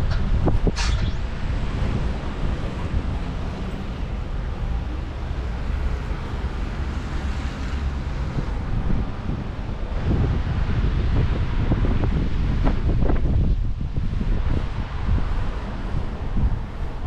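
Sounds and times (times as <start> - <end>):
outdoor street noise: 0.0 - 17.0
wind buffeting microphone: 0.0 - 17.0.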